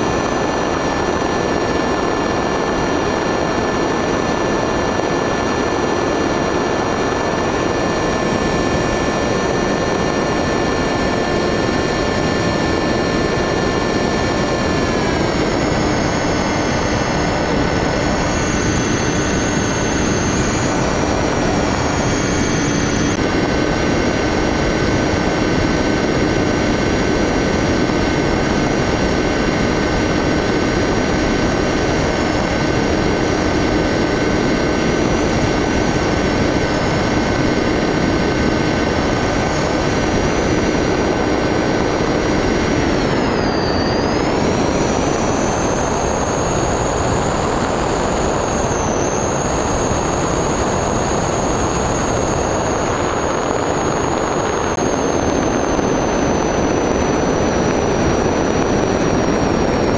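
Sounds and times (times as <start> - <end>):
model plane motor whine: 0.0 - 59.9
wind rush: 0.0 - 59.9.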